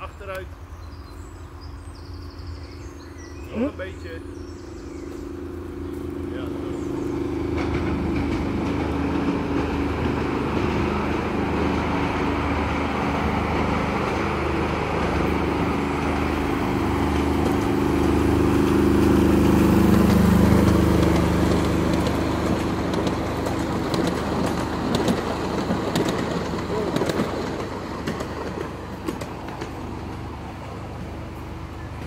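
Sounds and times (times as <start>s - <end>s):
small train motor humming: 0.0s - 32.0s
wheels clicking on track: 1.6s - 32.0s.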